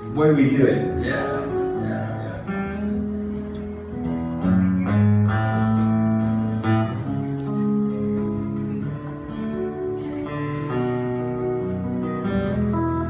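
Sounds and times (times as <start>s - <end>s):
band of acoustic guitars: 0.0s - 13.0s
electric guitar: 0.0s - 13.0s.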